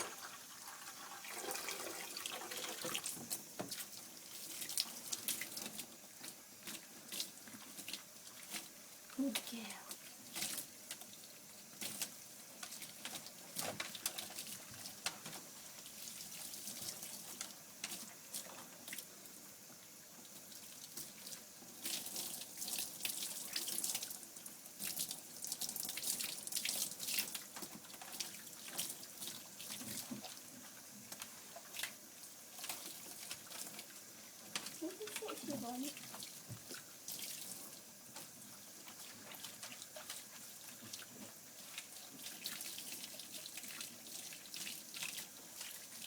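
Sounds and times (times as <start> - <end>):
water splashing from spray hose: 0.0 - 19.1, 20.3 - 46.0.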